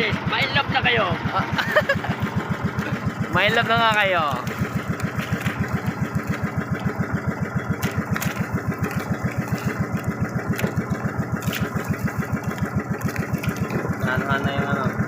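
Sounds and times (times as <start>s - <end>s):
small boat engine chugging: 0.0s - 15.0s.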